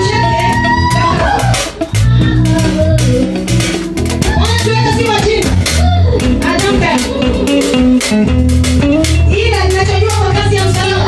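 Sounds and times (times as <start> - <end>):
bass guitar: 0.0 - 11.0
drum hits: 0.0 - 11.0
guitar: 0.0 - 11.0.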